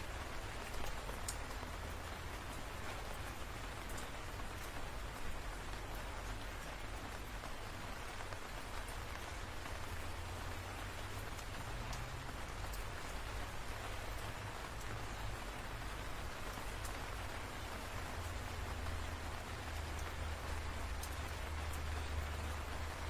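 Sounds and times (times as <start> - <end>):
rain falling steadily: 0.0 - 23.0.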